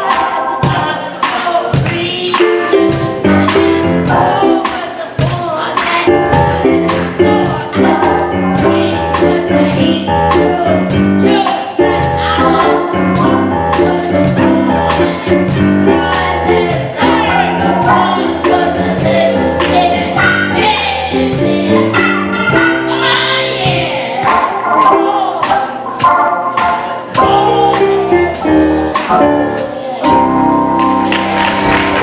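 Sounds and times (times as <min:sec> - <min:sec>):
gospel singing over a band: 0:00.0 - 0:32.0
tambourine shaken: 0:00.0 - 0:32.0.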